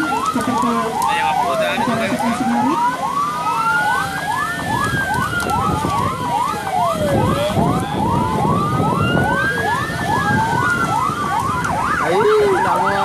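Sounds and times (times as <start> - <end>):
siren wailing: 0.0 - 13.0
siren yelping: 0.0 - 13.0.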